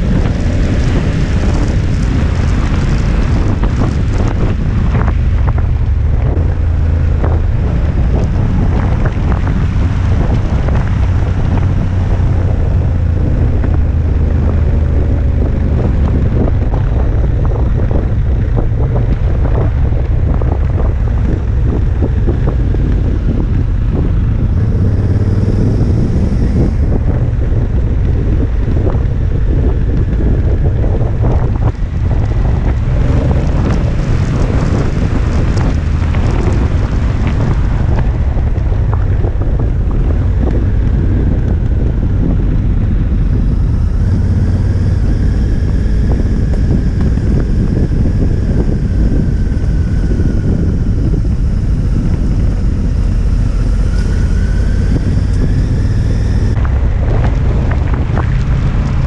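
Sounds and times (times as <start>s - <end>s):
gravel clicks and crackle: 0.0s - 59.0s
motorcycle engine running: 0.0s - 59.0s
wind buffeting microphone: 0.0s - 59.0s.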